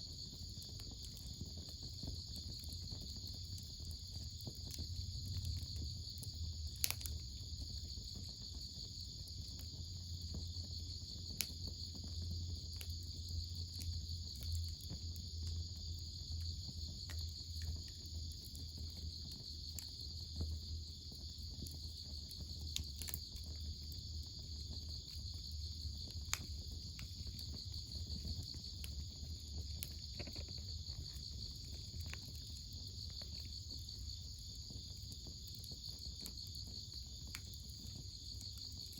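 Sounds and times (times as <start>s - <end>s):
crickets chirring: 0.0s - 38.9s
wood fire crackling: 0.0s - 38.9s.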